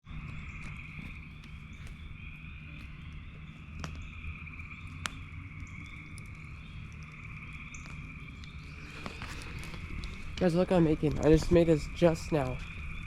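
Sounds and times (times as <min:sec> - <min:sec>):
bonfire popping: 0:00.0 - 0:13.0
frogs trilling: 0:00.1 - 0:13.0.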